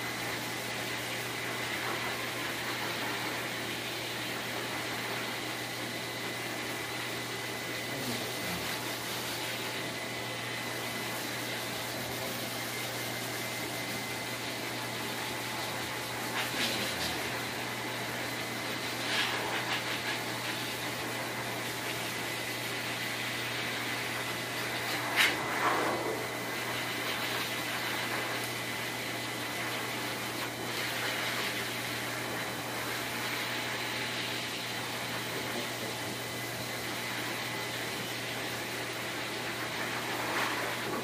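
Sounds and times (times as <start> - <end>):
blower dryer hissing: 0.0 - 41.0.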